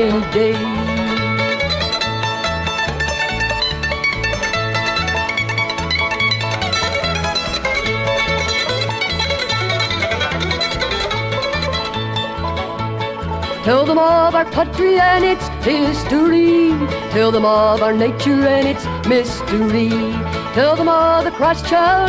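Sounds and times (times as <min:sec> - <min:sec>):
alternating bass line: 0:00.0 - 0:22.0
banjo picking lead: 0:00.0 - 0:22.0.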